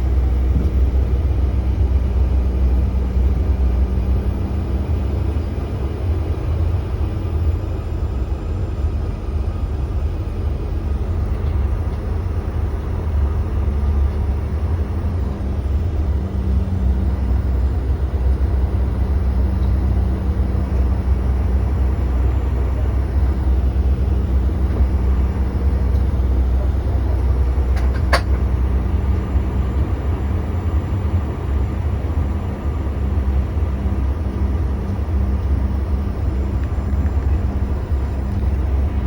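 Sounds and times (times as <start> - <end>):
jet engines rumbling in cabin: 0.0 - 39.0.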